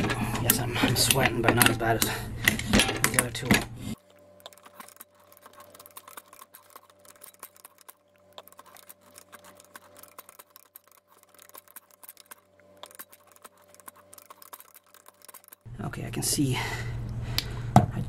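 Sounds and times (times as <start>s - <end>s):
ratchet pipe threader clicking: 0.0s - 3.5s, 4.4s - 15.7s
low steady hum: 0.0s - 18.0s.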